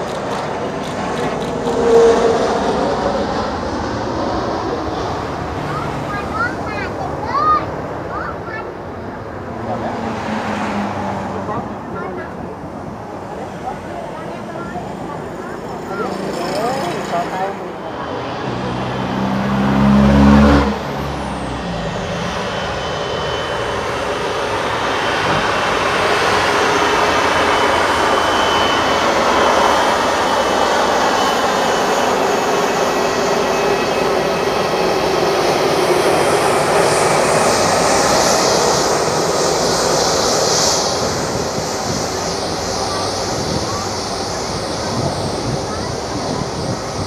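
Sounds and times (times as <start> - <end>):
jet airliner rumble and hiss: 0.0 - 47.0
road vehicle passing: 0.0 - 47.0.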